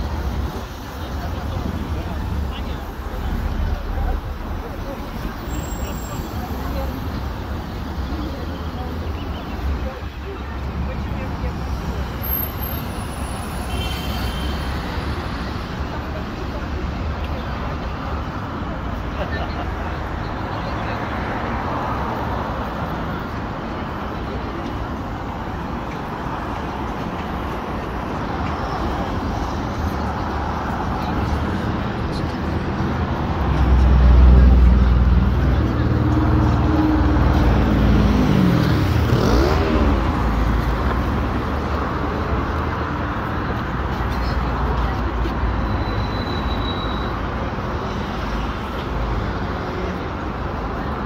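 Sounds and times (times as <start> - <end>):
road traffic hum: 0.0 - 51.0.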